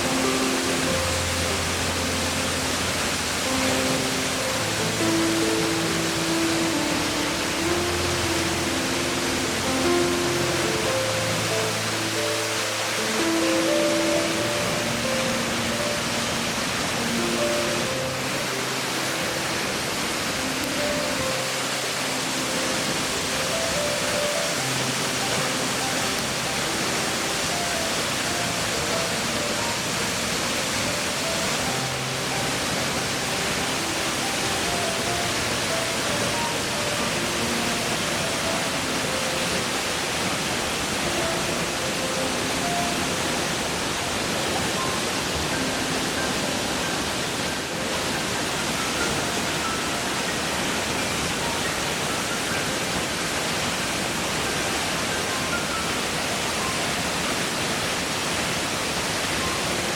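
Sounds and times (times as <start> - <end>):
soft melodic notes: 0.0 - 59.9
waterfall rushing: 0.0 - 59.9.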